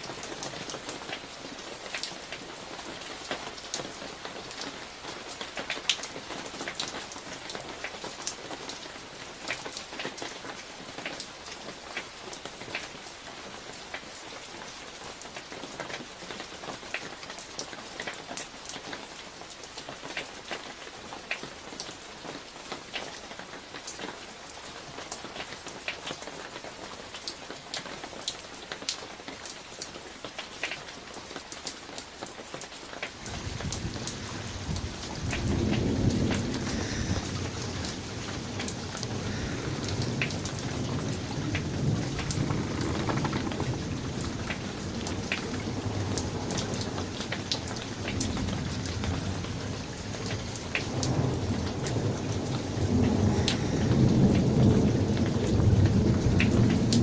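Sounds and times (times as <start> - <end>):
raindrops ticking close by: 0.0 - 57.0
steady rain hiss: 0.0 - 57.0.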